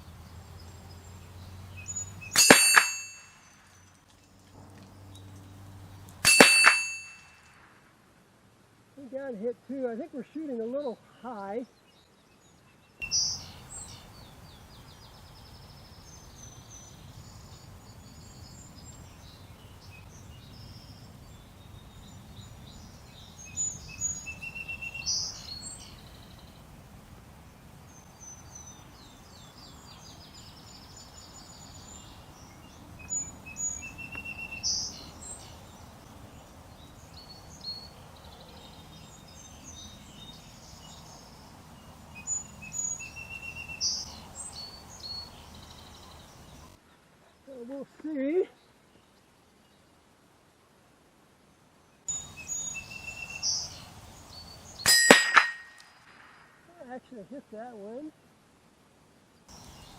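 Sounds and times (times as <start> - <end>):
wild birds singing: 0.0 - 7.8, 9.0 - 50.6, 51.4 - 59.9
low background noise: 0.0 - 59.9.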